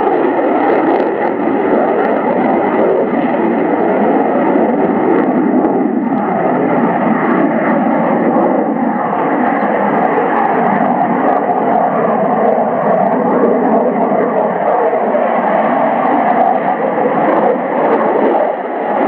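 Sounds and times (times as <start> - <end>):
jet engine rushing noise: 0.0 - 19.0.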